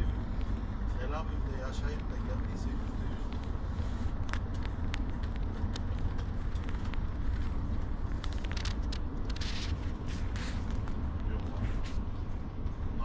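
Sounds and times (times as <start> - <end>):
bus engine and tyre rumble: 0.0 - 13.0.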